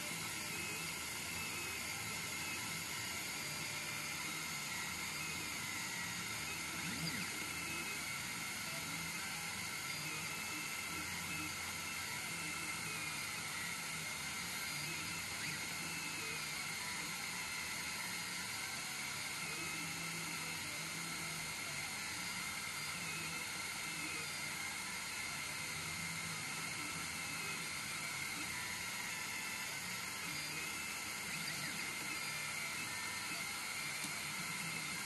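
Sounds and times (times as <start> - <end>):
stepper motors whining: 0.0 - 35.0.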